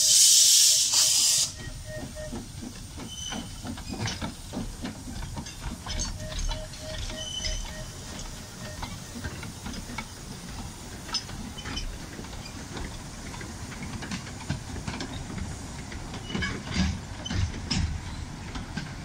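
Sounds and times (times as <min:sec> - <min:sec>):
steam train rumbling: 0:00.0 - 0:19.0
wheels clanking on track: 0:00.8 - 0:19.0.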